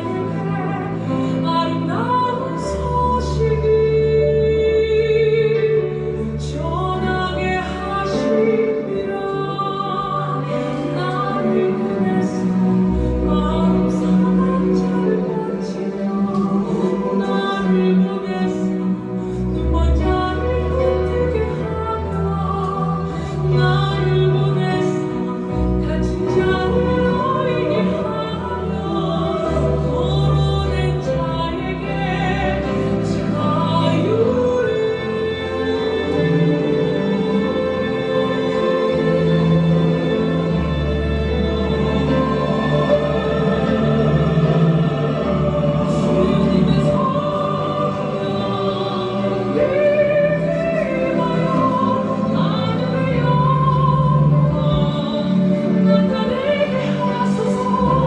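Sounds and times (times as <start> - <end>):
worship song with orchestral backing: 0.0 - 58.0.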